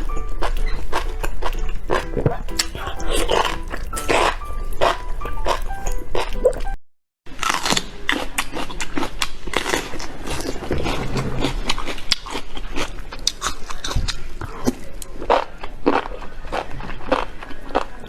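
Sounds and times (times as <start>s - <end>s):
crunchy wet chewing: 0.0s - 6.8s, 7.4s - 18.0s.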